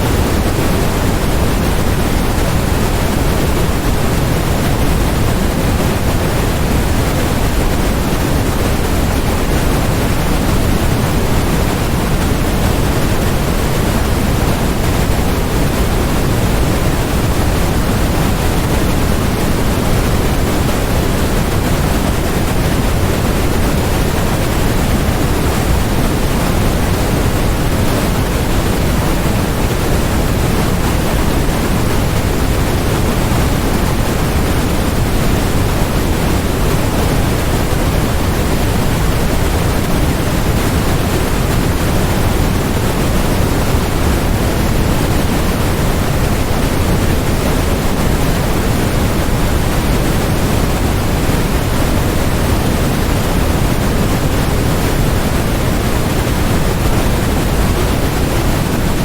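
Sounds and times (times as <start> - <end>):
steady electronic noise hiss: 0.0 - 59.0.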